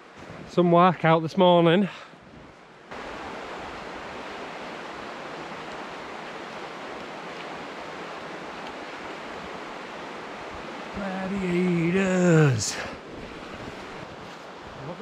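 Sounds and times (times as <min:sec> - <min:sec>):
river rushing: 0:02.8 - 0:15.0.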